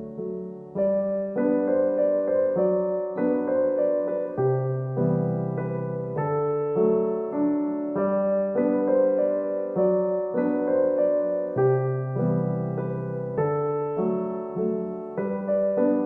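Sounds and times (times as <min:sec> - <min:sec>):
soft electric piano chords: 0:00.0 - 0:16.0.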